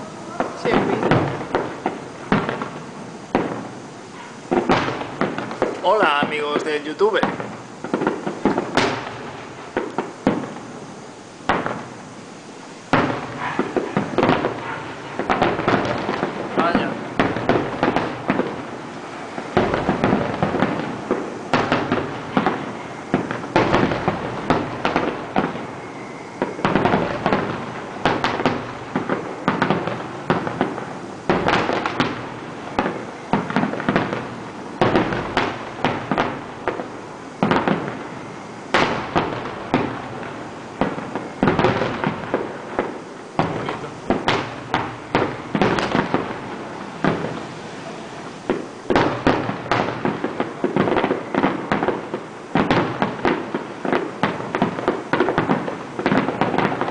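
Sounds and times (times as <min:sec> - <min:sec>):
firework shells bursting: 0:00.0 - 0:56.9.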